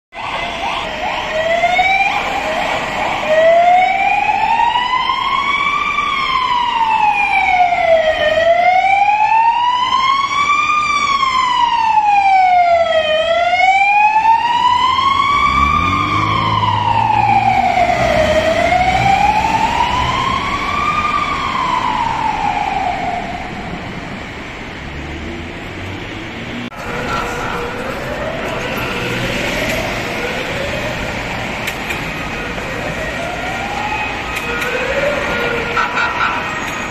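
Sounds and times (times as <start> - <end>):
ambulance siren wailing: 0.1 - 24.4, 26.5 - 36.9.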